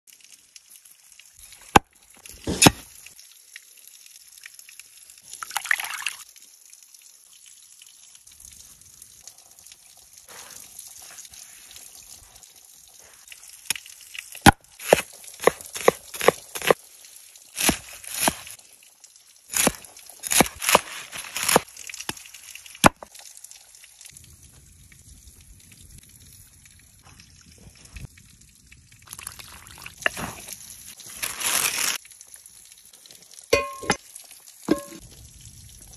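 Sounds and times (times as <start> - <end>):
running water trickle: 0.1 - 35.9.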